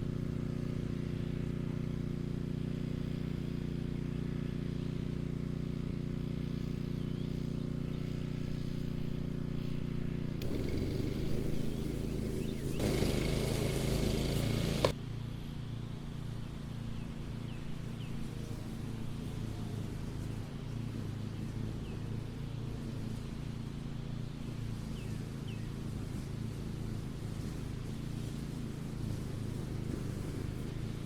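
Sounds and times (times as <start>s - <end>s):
mower engine running: 0.0s - 15.0s, 17.2s - 31.0s.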